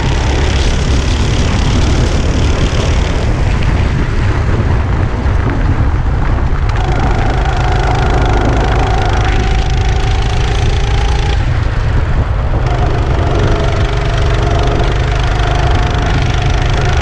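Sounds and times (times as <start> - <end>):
go-kart engine running: 0.0 - 17.0
wind rumble on microphone: 0.0 - 17.0.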